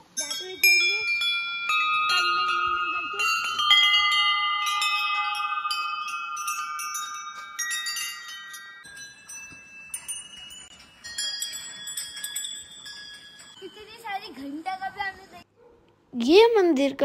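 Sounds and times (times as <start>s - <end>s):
brass bells ringing: 0.0s - 15.4s.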